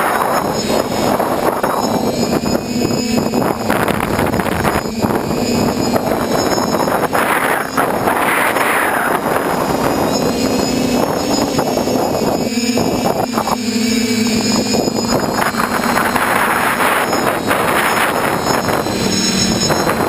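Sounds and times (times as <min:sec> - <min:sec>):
drone motors humming: 0:00.0 - 0:20.0
wind on microphone: 0:00.0 - 0:20.0.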